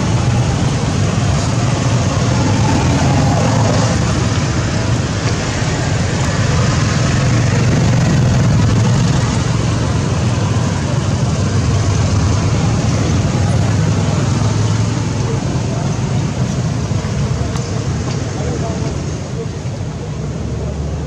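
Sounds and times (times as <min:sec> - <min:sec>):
loud background rumble with hiss: 0:00.0 - 0:21.0.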